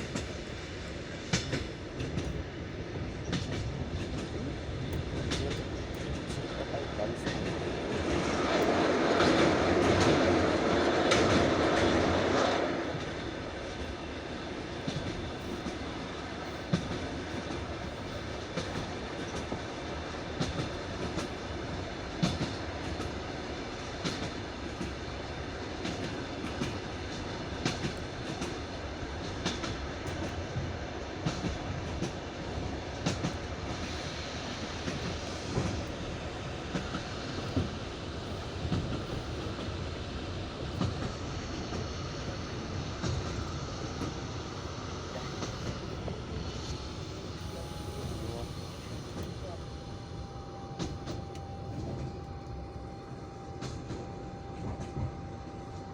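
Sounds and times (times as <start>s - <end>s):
clickety-clack of rail joints: 0.0s - 55.9s
train wheels rumbling: 0.0s - 55.9s.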